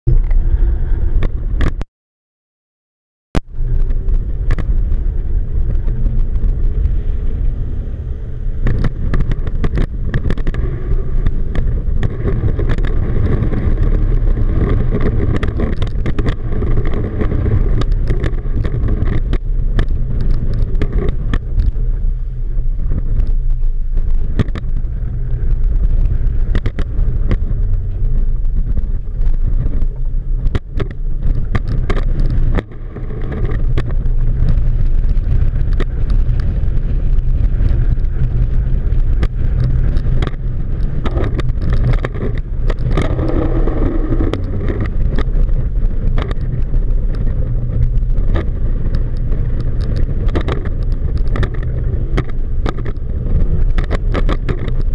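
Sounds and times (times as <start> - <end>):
outboard motors rumbling: 0.0 - 1.8, 3.4 - 54.9
sharp clicks and knocks: 1.2 - 1.8, 3.4 - 7.0, 8.6 - 22.0, 22.8 - 54.9.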